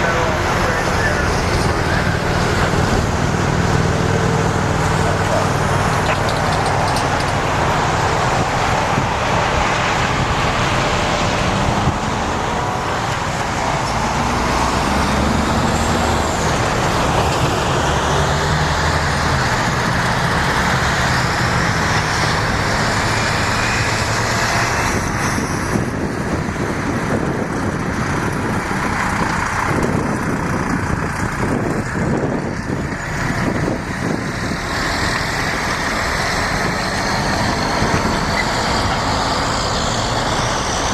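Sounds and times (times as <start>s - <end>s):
low engine drone: 0.0s - 40.9s.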